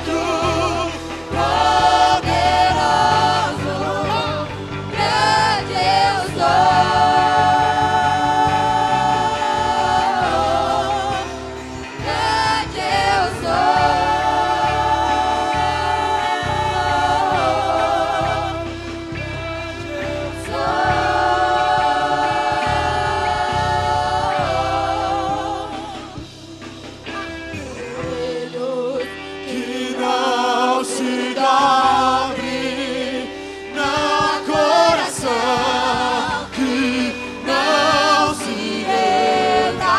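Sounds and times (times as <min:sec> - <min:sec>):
choir singing: 0:00.0 - 0:39.9
instrumental accompaniment: 0:00.0 - 0:39.9.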